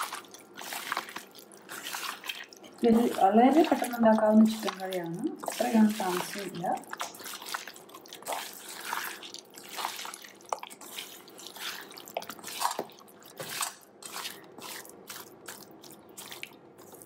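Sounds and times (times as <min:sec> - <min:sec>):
hand squelching raw chicken: 0:00.0 - 0:17.0.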